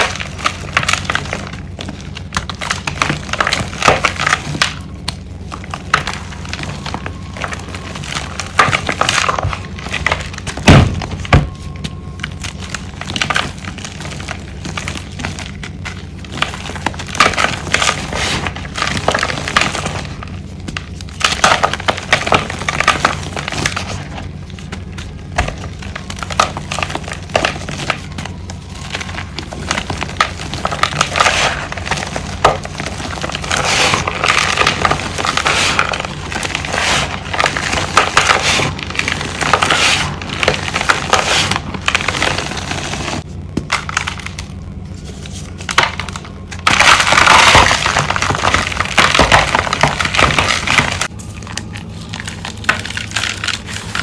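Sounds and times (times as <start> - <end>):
chalk crackling and crunching: 0.0 - 54.0
steady low hum: 0.0 - 54.0.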